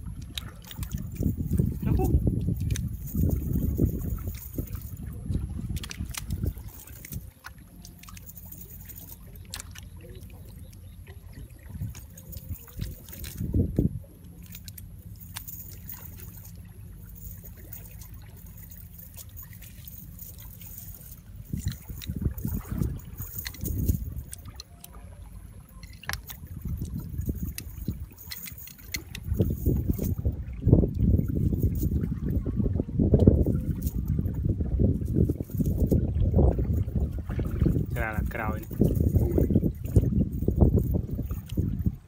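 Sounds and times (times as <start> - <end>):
low steady rumble: 0.0 - 42.0
wet squelching of mud and water: 0.0 - 42.0.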